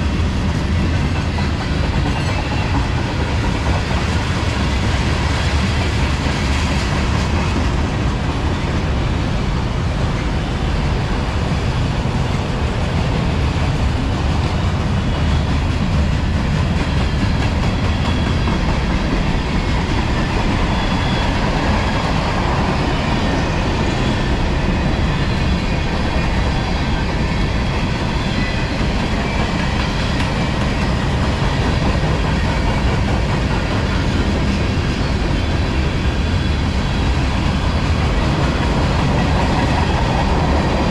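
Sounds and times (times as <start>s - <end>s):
train wheels rumbling on rails: 0.0s - 40.9s
wheels clickety-clack: 0.0s - 40.9s.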